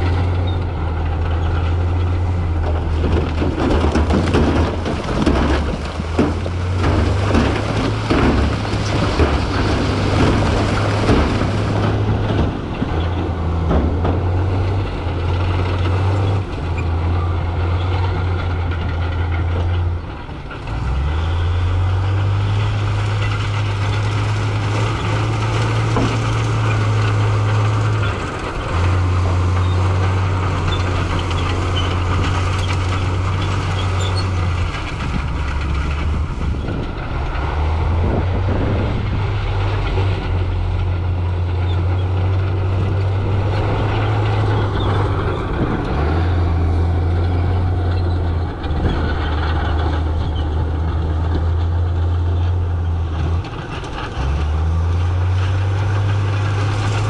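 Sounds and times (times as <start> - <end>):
diesel engine running under load: 0.0 - 57.0
rough crackling clatter: 0.0 - 57.0.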